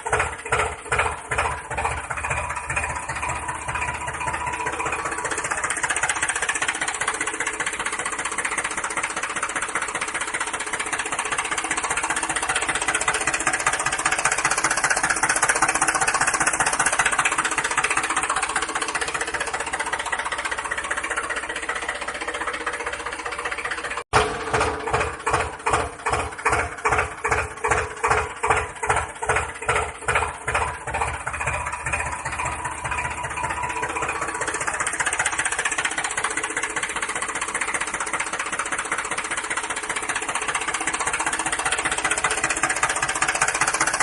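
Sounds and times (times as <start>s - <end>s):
tractor motor rattling: 0.0s - 44.0s.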